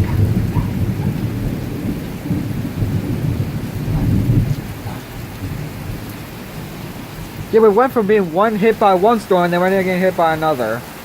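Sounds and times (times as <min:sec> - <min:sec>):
thunder rumbling: 0:00.0 - 0:10.8
rain hissing: 0:00.0 - 0:11.0.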